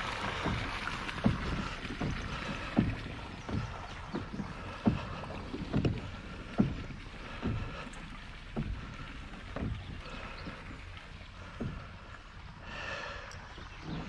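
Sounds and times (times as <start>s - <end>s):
pedal drive knocking: 0.0s - 13.0s
hiss of water and air: 0.0s - 14.0s.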